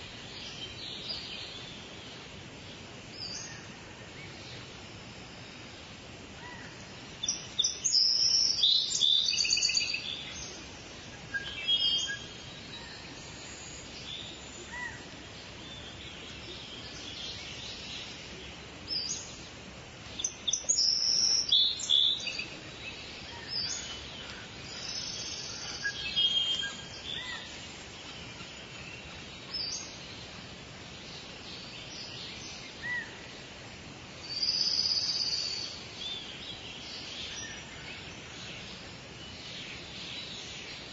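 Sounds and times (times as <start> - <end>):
birds chirping: 0.0 - 40.9
steady background hiss: 0.0 - 40.9.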